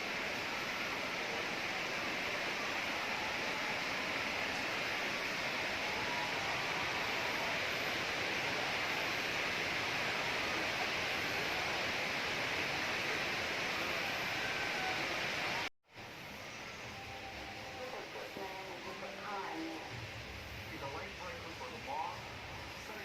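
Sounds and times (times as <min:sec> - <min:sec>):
steady hiss-like noise: 0:00.0 - 0:23.0.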